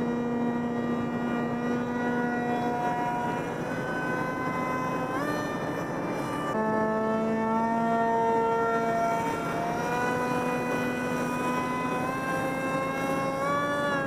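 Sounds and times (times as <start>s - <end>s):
model jet engine whining: 0.0s - 14.0s.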